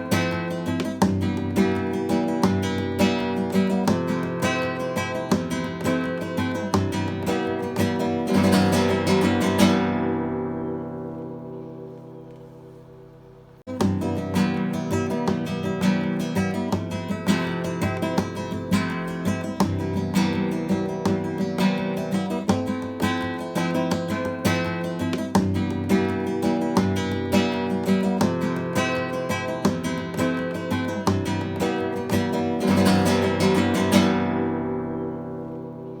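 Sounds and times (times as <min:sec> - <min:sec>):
acoustic guitar strumming and picking: 0:00.0 - 0:12.8, 0:13.7 - 0:36.0.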